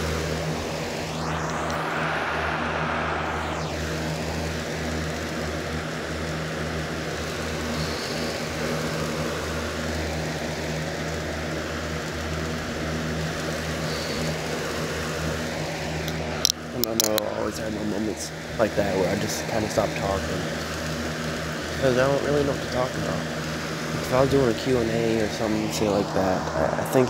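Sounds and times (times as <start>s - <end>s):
box fan running: 0.0s - 27.0s.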